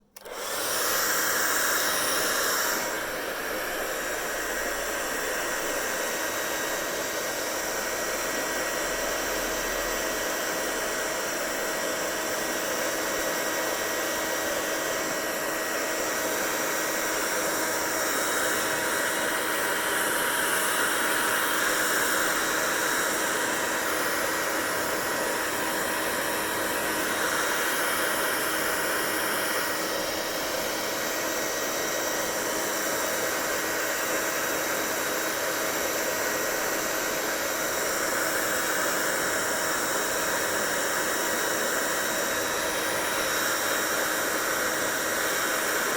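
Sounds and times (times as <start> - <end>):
hair dryer blowing: 0.0 - 45.9.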